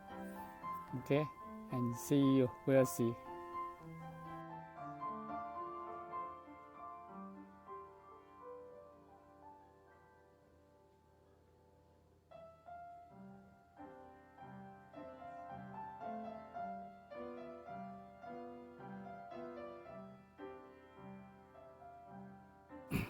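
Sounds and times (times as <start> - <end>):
soft piano music: 0.0 - 22.9.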